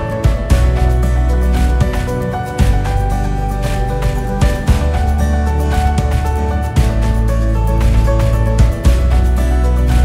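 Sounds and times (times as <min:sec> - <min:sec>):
music with heavy bass and beat: 0:00.0 - 0:10.0.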